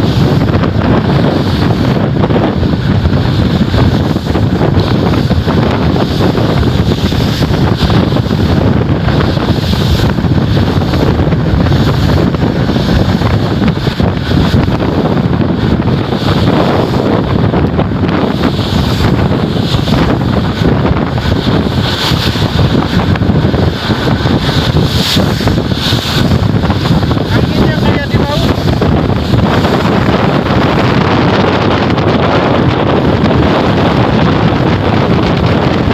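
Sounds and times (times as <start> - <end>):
sea noise: 0.0 - 35.9
wind buffeting microphone: 0.0 - 35.9.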